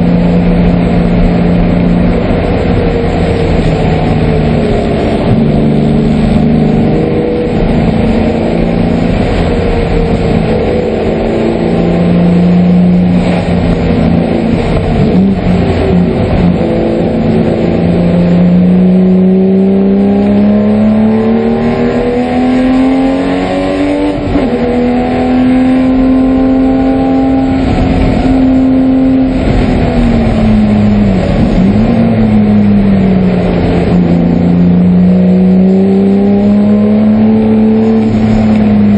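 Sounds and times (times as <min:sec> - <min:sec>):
race car engine under load: 0:00.0 - 0:38.9.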